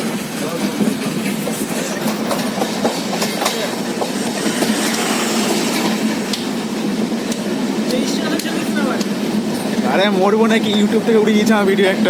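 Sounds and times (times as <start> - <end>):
train rumble and rattle: 0.0 - 12.0
wheels clicking over rails: 0.0 - 12.0.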